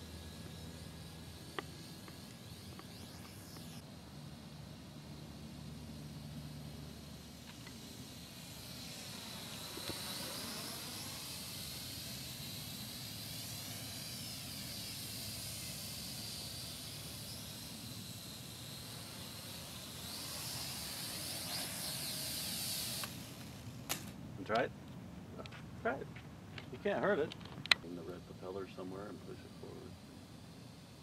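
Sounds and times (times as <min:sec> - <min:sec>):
quadcopter propellers whining: 0:00.0 - 0:24.6, 0:26.8 - 0:31.0.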